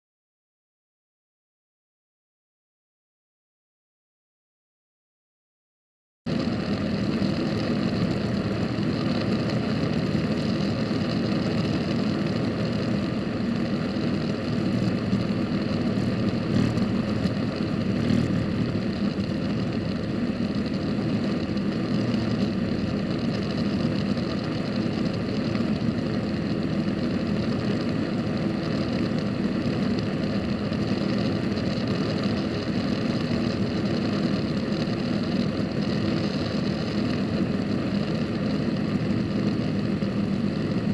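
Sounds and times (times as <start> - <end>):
helicopter engine and rotor: 6.3 - 40.9.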